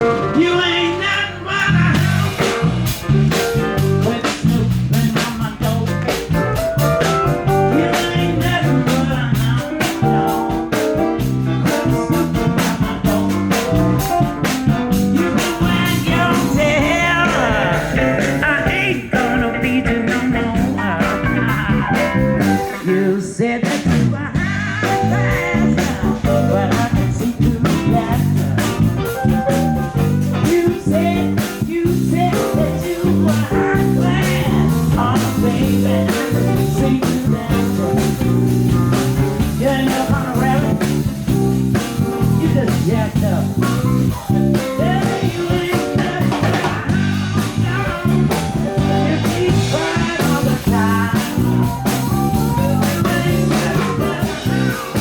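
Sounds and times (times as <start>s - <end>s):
blues-rock band playing live: 0.0s - 55.0s
electric guitar: 0.0s - 55.0s.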